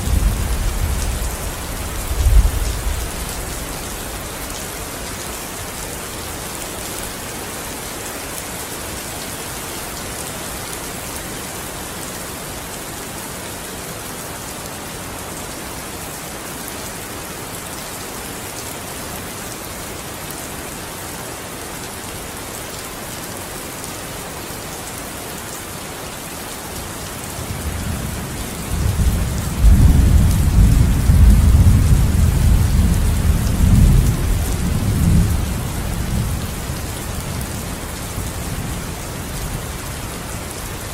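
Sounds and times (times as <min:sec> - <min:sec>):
steady rainfall hissing: 0:00.0 - 0:40.9.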